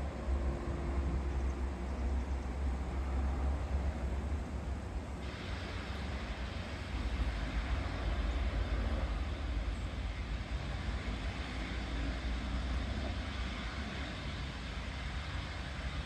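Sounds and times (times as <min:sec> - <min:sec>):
steam locomotive rumble: 0:00.0 - 0:16.0.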